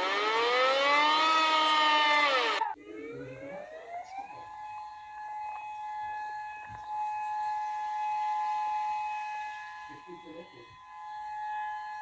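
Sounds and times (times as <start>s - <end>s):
warning siren winding up: 0.0s - 12.0s.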